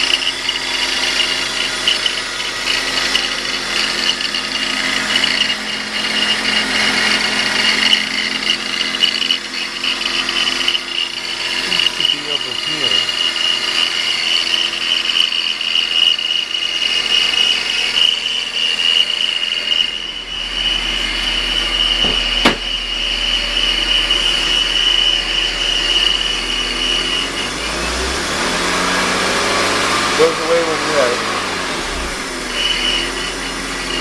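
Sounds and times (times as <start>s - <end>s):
car engine running: 0.0s - 34.0s
high-pitched belt whine: 0.0s - 34.0s.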